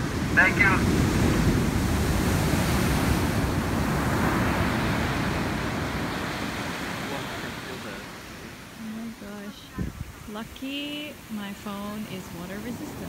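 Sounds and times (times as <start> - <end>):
surf crashing on beach: 0.0 - 13.0.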